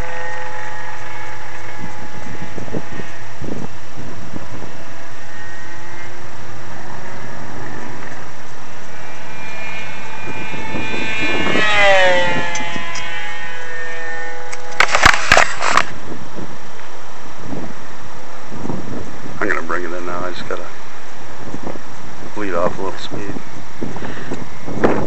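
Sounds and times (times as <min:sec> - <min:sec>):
model plane motor whining: 0:00.0 - 0:22.3.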